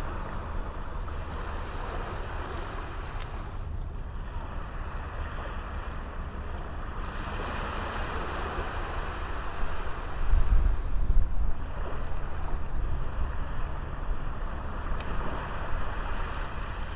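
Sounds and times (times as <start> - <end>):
sea waves washing onto beach: 0.0 - 16.9
wind rumble on microphone: 0.0 - 16.9.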